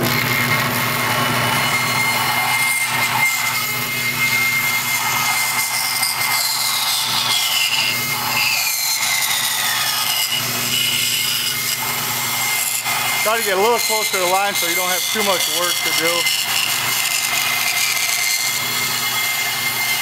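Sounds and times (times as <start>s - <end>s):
bandsaw cutting through wood: 0.0s - 20.0s.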